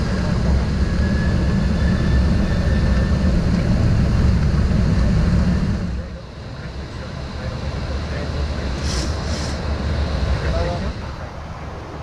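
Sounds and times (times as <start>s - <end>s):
jet engines at takeoff thrust: 0.0s - 12.0s
wheels rumbling on runway: 0.0s - 12.0s.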